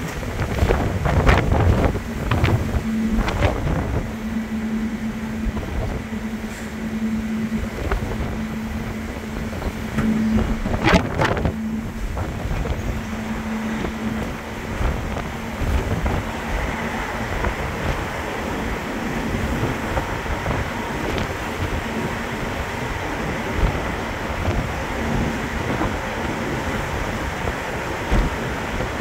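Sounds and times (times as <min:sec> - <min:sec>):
ferry machinery droning: 0:00.0 - 0:29.0
wind gusting on microphone: 0:00.0 - 0:29.0.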